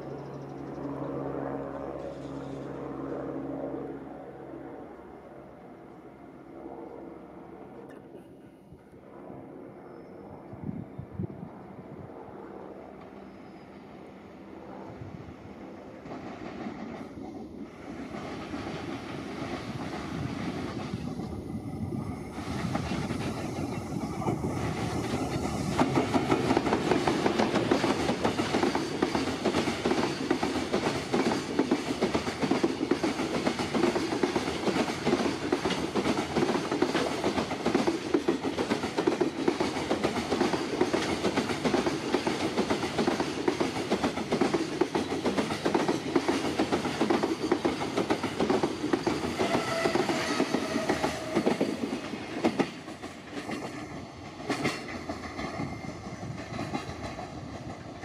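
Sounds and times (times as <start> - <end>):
electric locomotive passing: 0.0 - 58.0.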